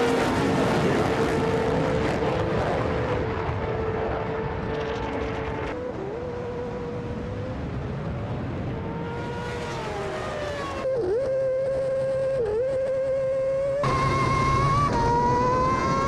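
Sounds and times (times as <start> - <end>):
racing engine at high revs: 0.0 - 16.0.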